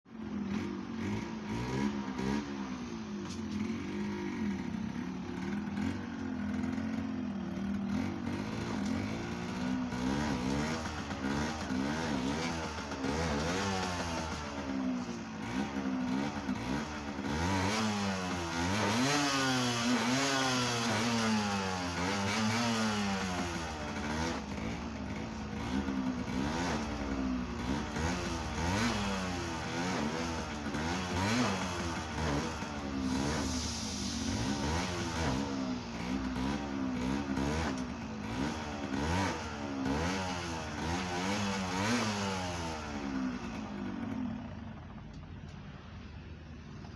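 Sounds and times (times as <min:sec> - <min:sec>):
two-stroke engine revving: 0:00.1 - 0:46.9.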